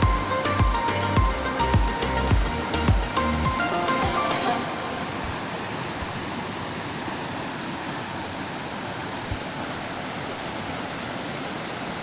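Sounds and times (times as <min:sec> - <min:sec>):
spring water rushing: 0:00.0 - 0:12.0.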